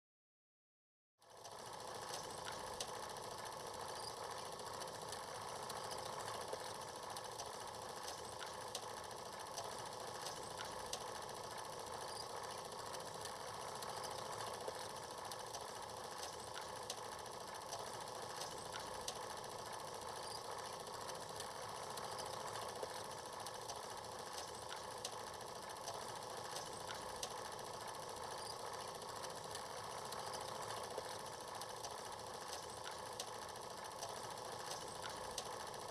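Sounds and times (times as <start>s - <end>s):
whirring film hiss: 1.2s - 35.9s
faint crackles and clicks: 1.4s - 35.9s.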